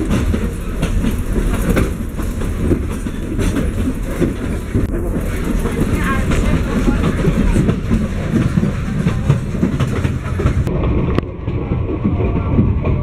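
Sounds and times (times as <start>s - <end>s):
train car low rumble: 0.0s - 13.0s
wheels and couplings rattling and clacking: 0.0s - 13.0s.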